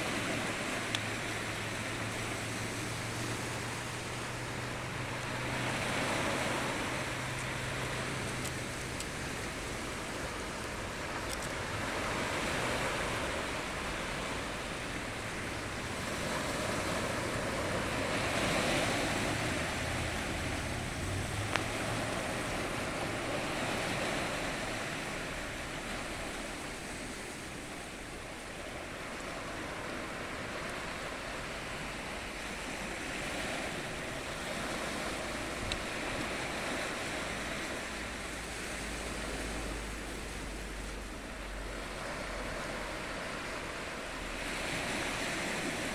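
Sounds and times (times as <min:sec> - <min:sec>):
ocean waves breaking on shore: 0:00.0 - 0:45.9
wind noise on microphone: 0:00.0 - 0:45.9.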